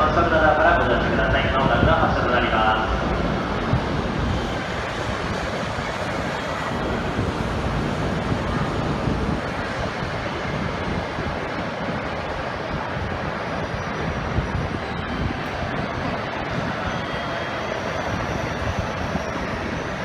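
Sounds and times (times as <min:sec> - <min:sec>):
train rushing rumble: 0:00.0 - 0:20.0.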